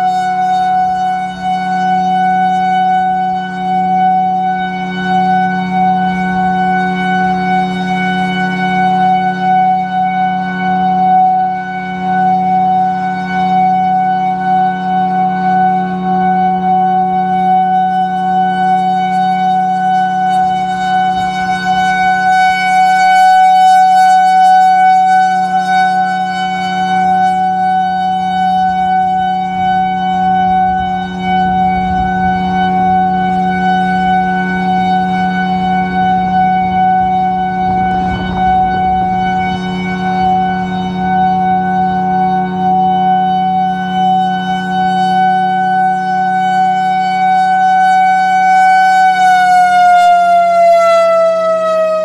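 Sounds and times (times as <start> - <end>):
warning siren steady tone: 0.0 - 52.0.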